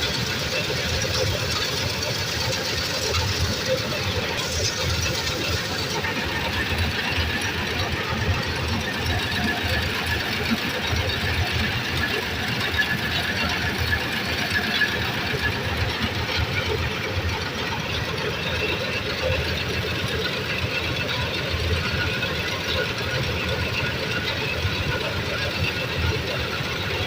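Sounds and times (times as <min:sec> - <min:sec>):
combine harvester engine running: 0:00.0 - 0:27.0.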